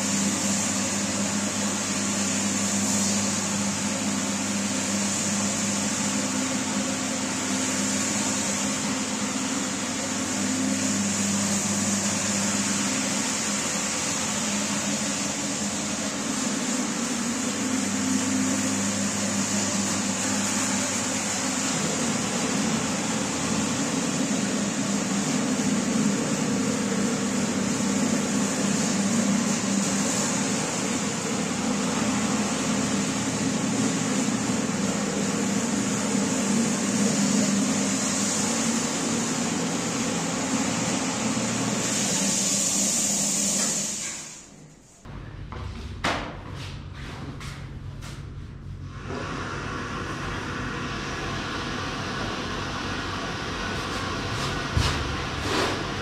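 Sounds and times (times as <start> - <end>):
rug-cleaning machine motor hum: 0.0 - 44.1, 45.1 - 56.0.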